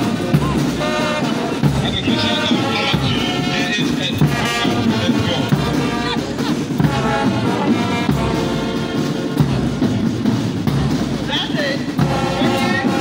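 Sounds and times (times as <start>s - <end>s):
brass band playing a march: 0.0s - 13.0s.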